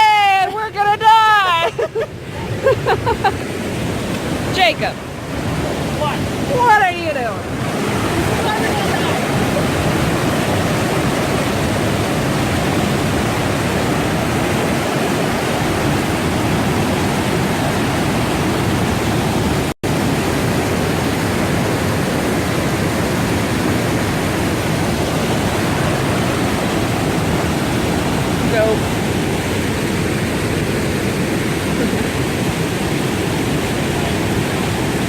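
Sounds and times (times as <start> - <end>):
rushing water: 0.0 - 35.0.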